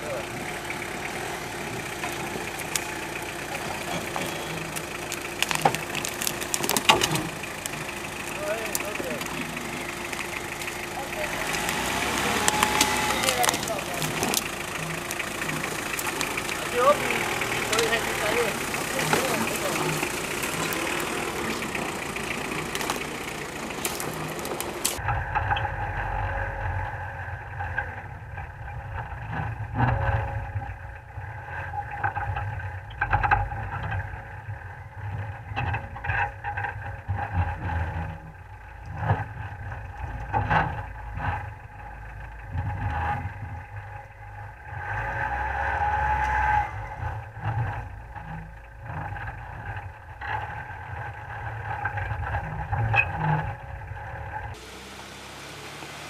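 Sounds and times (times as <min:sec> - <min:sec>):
off-road engine at low revs: 0:00.0 - 0:56.0.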